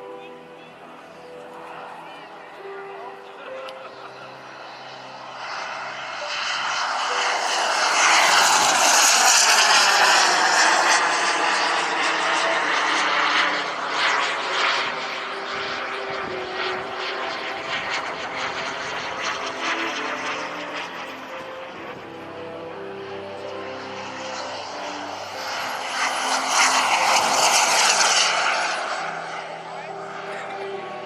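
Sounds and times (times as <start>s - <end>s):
model jet turbine whine: 0.0s - 31.0s.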